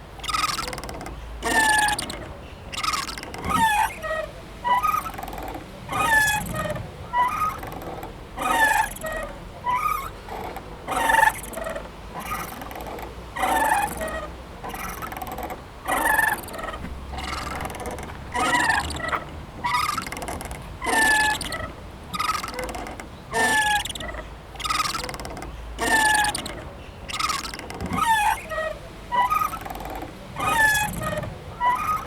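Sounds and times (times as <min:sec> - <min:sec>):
playground swing squeaking: 0:00.0 - 0:32.0.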